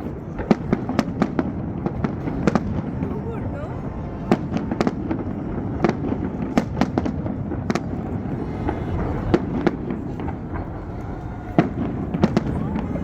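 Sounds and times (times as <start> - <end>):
continuous low rumble: 0.0 - 13.0
fireworks bangs and cracks: 0.0 - 13.0.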